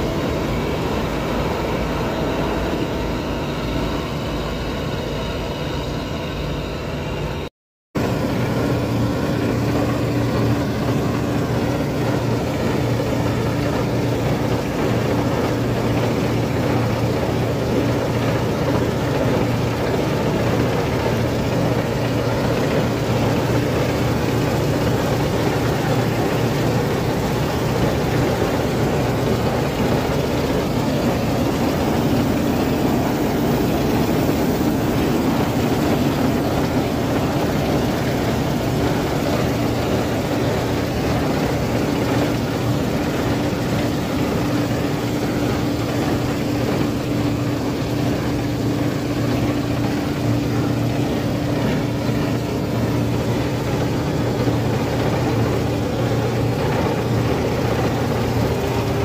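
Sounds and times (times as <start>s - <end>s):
combine harvester droning: 0.0s - 59.0s.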